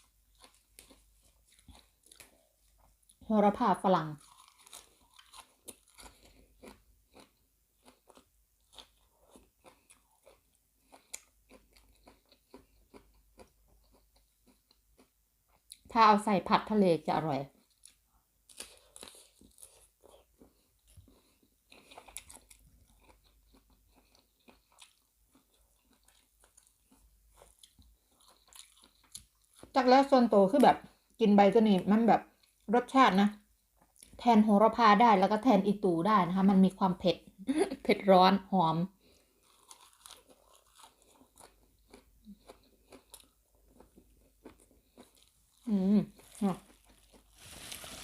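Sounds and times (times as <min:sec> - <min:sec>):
chewing crunchy vegetables: 0:00.0 - 0:15.9, 0:17.4 - 0:31.2, 0:39.0 - 0:48.0.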